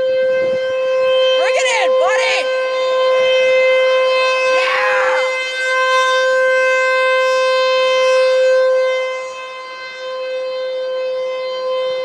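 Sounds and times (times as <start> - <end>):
rotating warning siren steady tone: 0.0 - 12.0.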